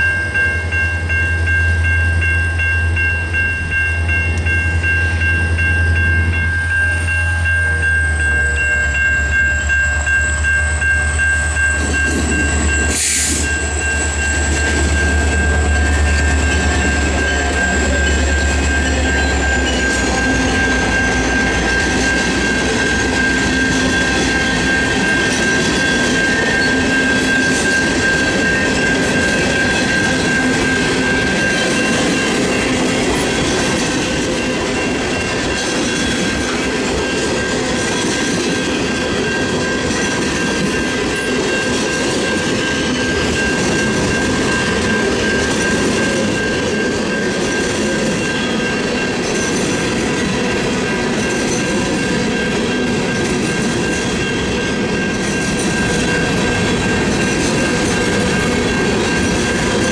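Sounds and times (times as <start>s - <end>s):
crossing bell ringing: 0.0s - 59.9s
diesel locomotive engine: 0.0s - 59.9s.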